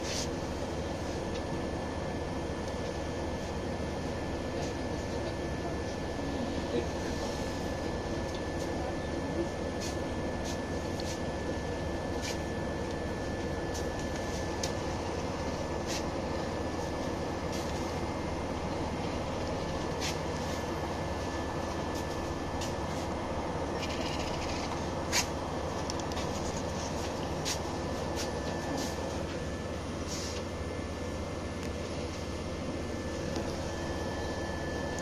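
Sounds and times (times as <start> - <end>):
bus running noise: 0.0 - 35.0
faint steady whine: 0.0 - 35.0.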